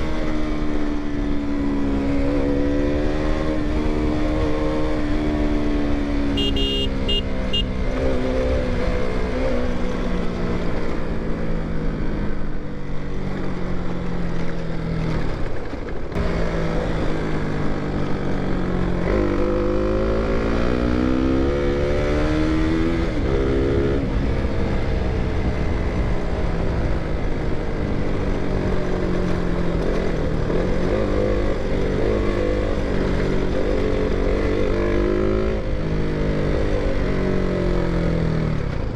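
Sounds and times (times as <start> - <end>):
motorcycle engine: 0.0 - 38.9
wind and road noise: 0.0 - 38.9.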